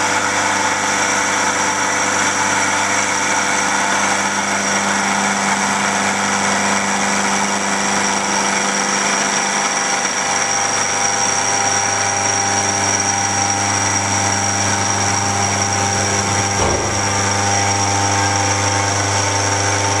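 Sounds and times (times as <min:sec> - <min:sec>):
milling machine spindle whine: 0:00.0 - 0:20.0
low motor hum: 0:03.8 - 0:20.0.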